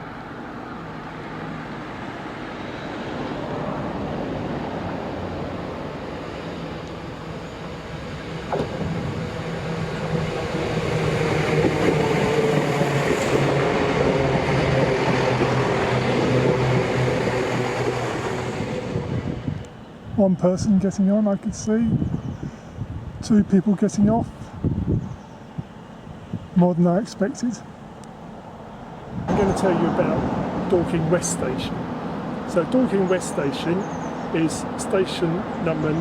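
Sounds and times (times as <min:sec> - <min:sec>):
train diesel engines humming: 0:00.0 - 0:36.0.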